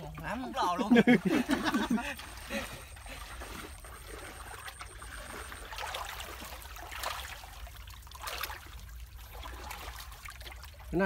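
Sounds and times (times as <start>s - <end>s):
hands sloshing through muddy water: 0.0s - 11.0s
small water splashes: 0.0s - 11.0s.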